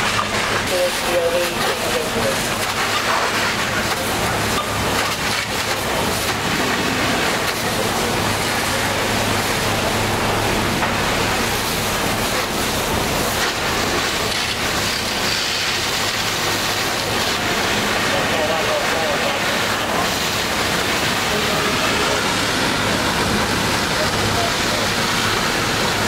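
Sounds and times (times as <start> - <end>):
fire hose spraying and splashing: 0.0 - 26.0.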